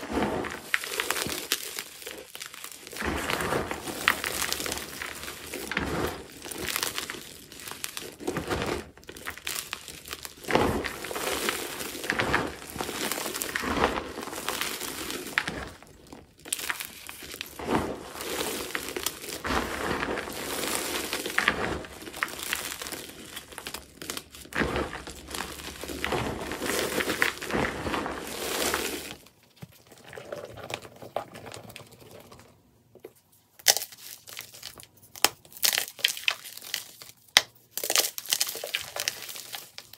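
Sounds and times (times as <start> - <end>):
hands crunching chalk: 0.0 - 29.3, 33.5 - 39.9.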